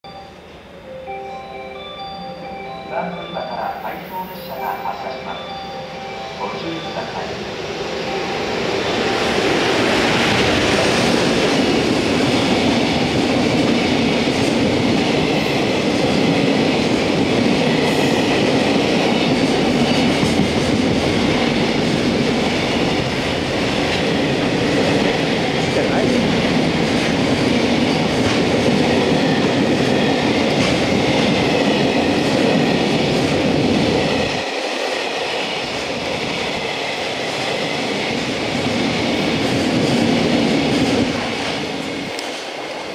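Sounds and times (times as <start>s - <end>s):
freight train passing: 0.0s - 42.9s.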